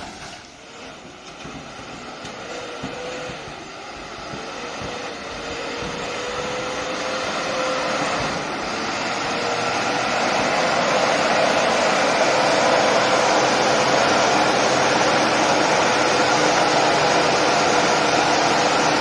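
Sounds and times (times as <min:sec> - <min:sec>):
heavy vehicle engine whine: 0:00.0 - 0:19.0.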